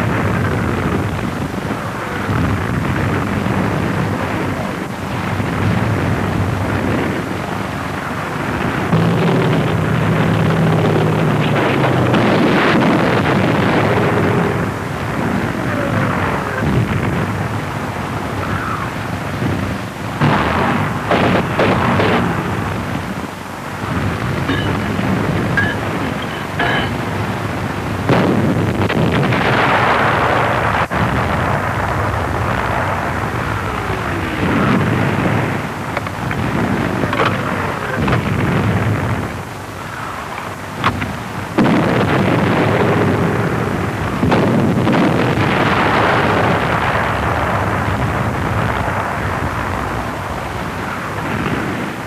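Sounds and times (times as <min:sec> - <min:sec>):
rumbling explosions: 0:00.0 - 0:52.0
sharp cracks: 0:00.0 - 0:52.0.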